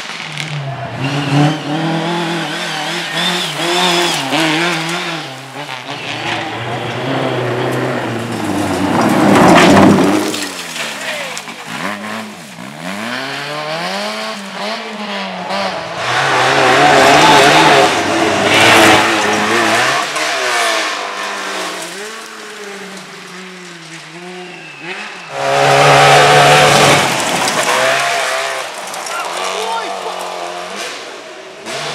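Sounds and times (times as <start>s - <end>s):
rally car engine revving: 0.0s - 31.9s.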